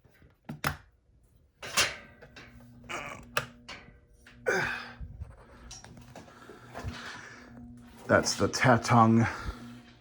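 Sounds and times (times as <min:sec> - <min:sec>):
ceiling fan motor humming: 0:01.4 - 0:10.0.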